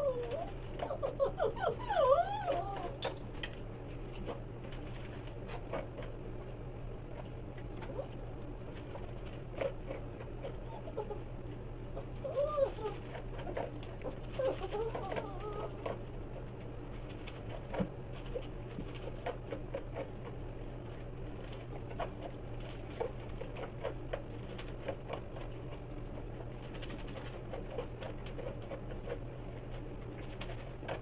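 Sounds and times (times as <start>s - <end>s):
steady low hum: 0.0s - 31.0s
dog crunching dry kibble: 2.0s - 6.3s, 7.1s - 11.1s, 12.0s - 31.0s.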